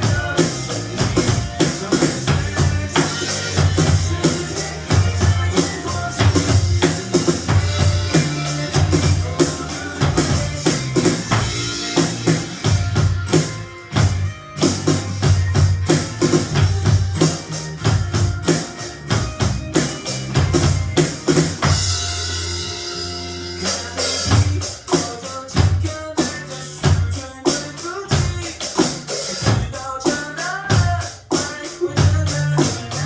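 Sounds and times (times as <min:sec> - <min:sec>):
drum kit playing: 0:00.0 - 0:33.0
pop-rock backing track: 0:00.0 - 0:33.0.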